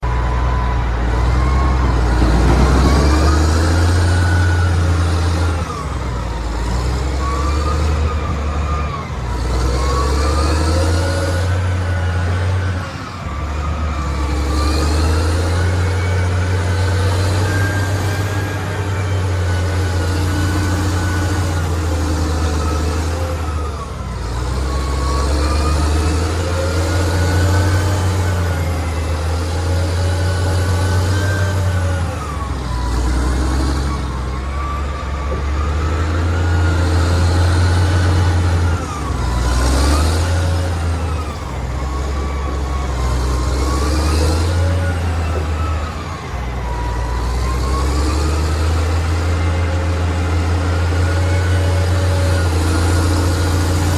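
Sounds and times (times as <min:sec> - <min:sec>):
excavator diesel engine: 0:00.0 - 0:53.9
hydraulic whine: 0:00.0 - 0:53.9.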